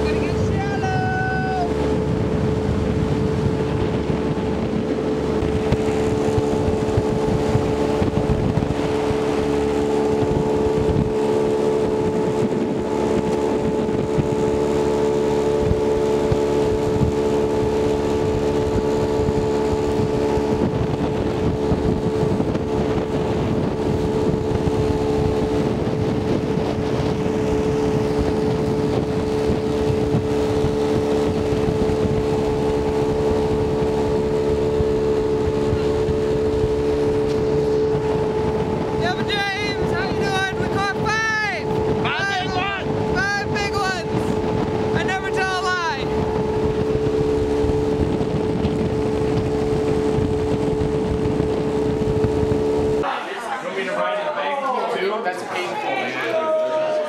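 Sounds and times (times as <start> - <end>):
outboard motor running: 0.0 - 53.2.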